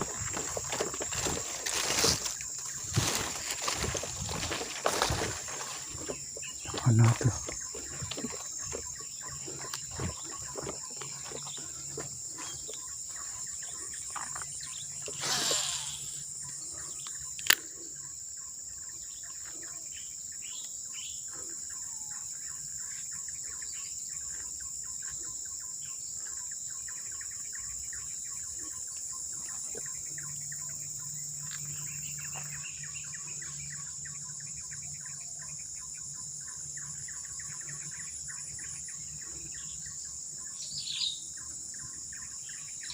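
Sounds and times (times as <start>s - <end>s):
bird chirps: 0.0s - 42.9s
insects chorus: 0.0s - 42.9s.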